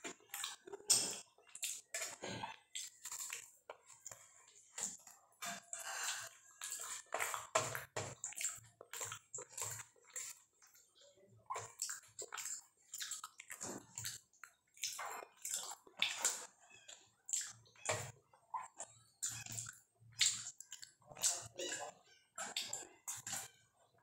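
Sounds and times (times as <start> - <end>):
wet squelching chewing: 0.0 - 24.0.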